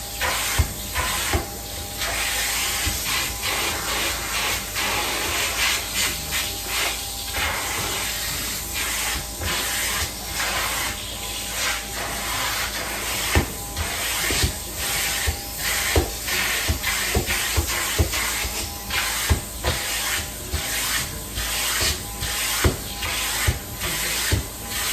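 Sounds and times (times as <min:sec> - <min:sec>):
upholstery cleaning tool hissing: 0:00.0 - 0:24.9.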